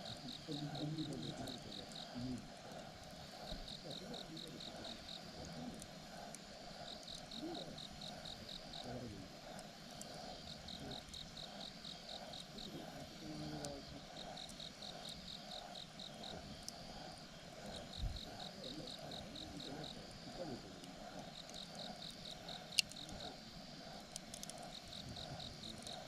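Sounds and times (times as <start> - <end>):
campfire crackling: 0.0 - 26.0
insects chirping in rapid pulses: 0.0 - 26.0
low pulsing insect trill: 0.0 - 26.0.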